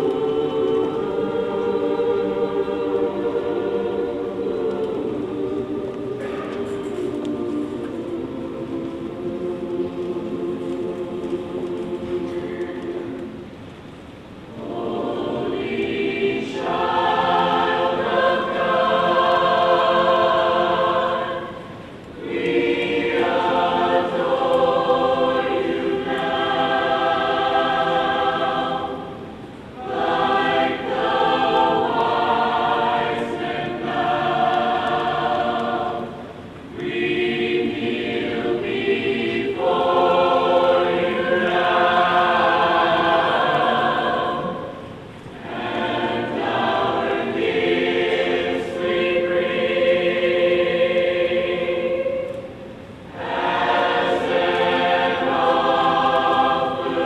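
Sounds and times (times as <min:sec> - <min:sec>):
choir singing: 0:00.0 - 0:13.7, 0:14.4 - 0:57.0.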